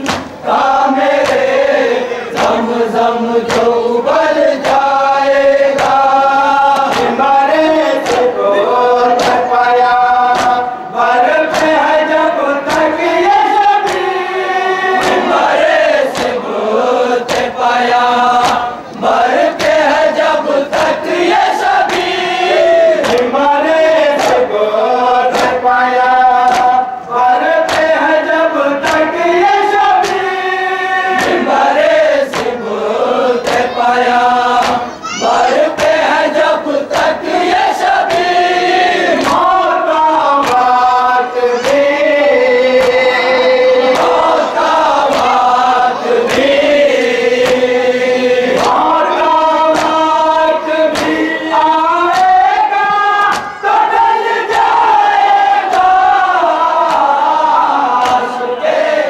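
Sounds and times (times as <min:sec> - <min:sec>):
sharp rhythmic strikes: 0:00.0 - 0:58.8
men chanting together: 0:00.0 - 0:59.0.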